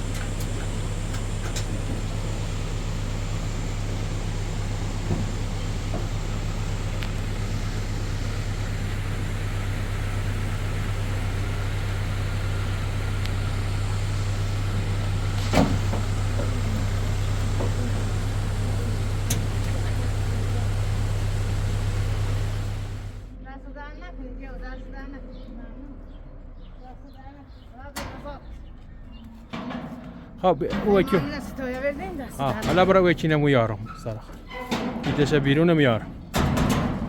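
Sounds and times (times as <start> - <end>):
vehicle engine humming: 0.0 - 37.0.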